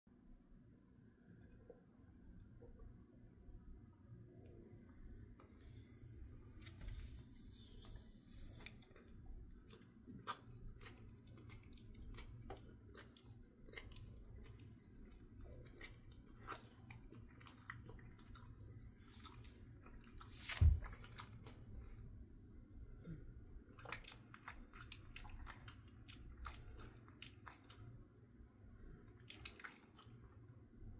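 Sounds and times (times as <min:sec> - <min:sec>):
low room hum: 0:00.1 - 0:30.9
dog chewing softly: 0:04.4 - 0:30.6.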